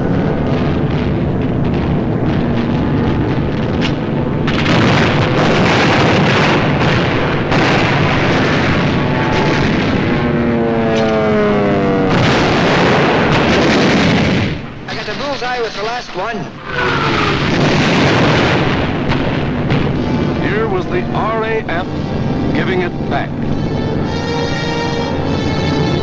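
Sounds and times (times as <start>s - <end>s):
aircraft engines droning: 0.0s - 17.8s, 18.4s - 26.0s
falling whine: 0.0s - 26.0s
film soundtrack noise: 0.0s - 26.0s
loud blasts: 0.0s - 26.0s.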